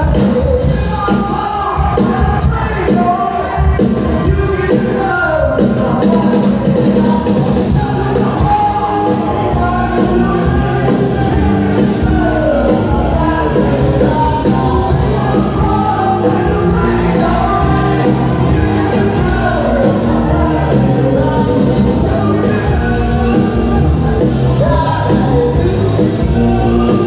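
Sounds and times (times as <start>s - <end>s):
live band playing: 0.0s - 27.0s
person singing: 0.0s - 27.0s.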